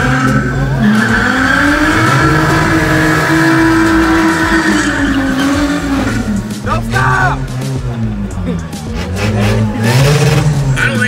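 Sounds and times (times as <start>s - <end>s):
car engine revving high: 0.0s - 11.0s.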